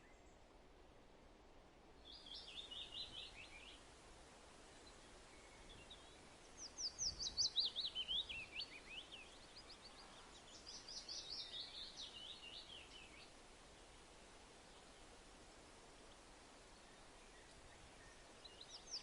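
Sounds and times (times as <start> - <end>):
songbird singing: 0.0 - 0.6, 2.0 - 19.0
faint steady hiss: 0.0 - 19.0.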